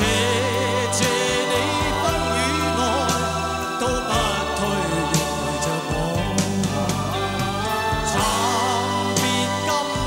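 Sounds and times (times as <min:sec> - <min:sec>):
band accompaniment with bass: 0:00.0 - 0:10.0
man singing pop ballad: 0:00.0 - 0:10.0.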